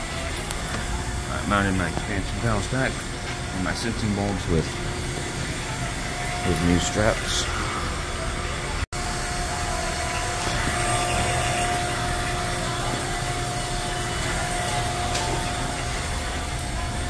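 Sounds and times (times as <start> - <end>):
vacuum pump humming: 0.0 - 17.0.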